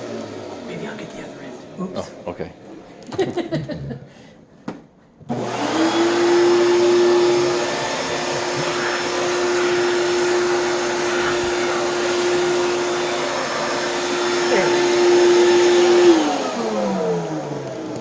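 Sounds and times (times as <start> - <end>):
vacuum cleaner motor whine: 0.0 - 3.1, 5.3 - 18.0.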